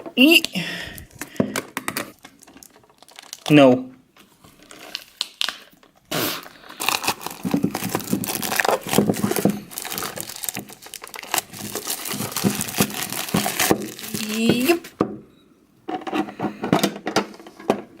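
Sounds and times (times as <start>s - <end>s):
plastic wrapping crinkling and tearing: 0.2s - 14.9s.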